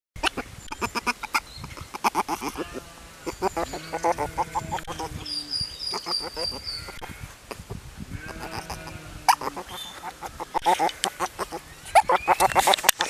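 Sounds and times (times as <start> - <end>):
otter squeaking and chirping: 0.2 - 13.0.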